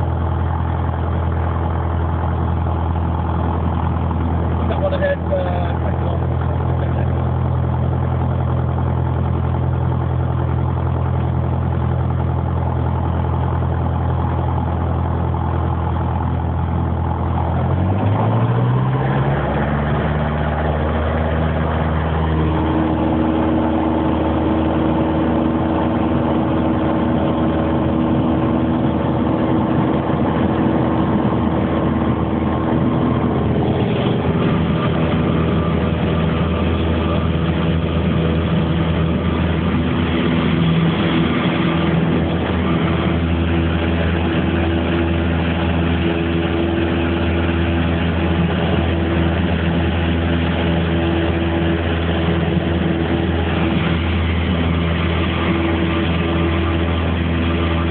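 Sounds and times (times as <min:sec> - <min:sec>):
light aircraft engine running: 0:00.0 - 0:57.9.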